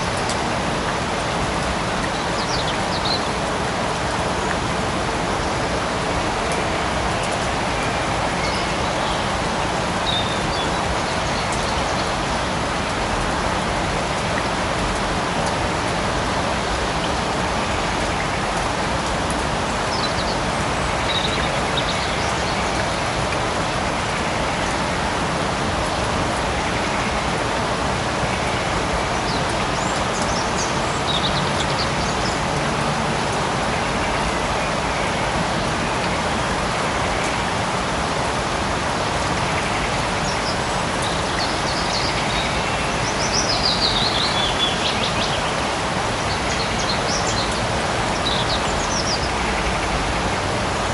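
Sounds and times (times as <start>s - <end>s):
light rain falling: 0.0s - 50.9s.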